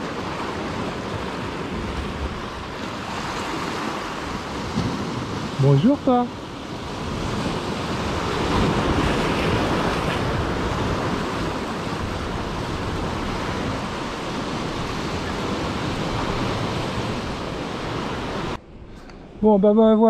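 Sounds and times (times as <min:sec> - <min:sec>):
sea surf washing: 0:00.0 - 0:18.6
wind buffeting microphone: 0:00.0 - 0:19.4.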